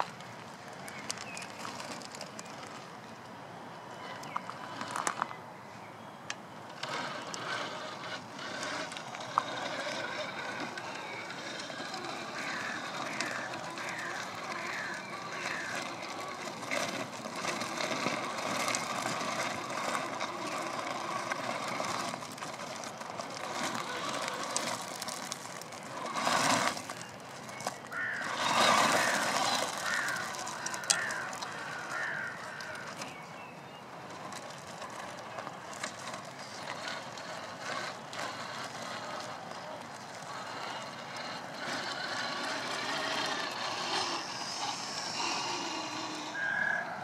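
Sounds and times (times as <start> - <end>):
tyres crunching over stones: 0.0 - 3.2, 6.7 - 46.8
toy car motor running: 4.0 - 5.3, 6.6 - 47.0
rushes of noise: 6.6 - 47.0.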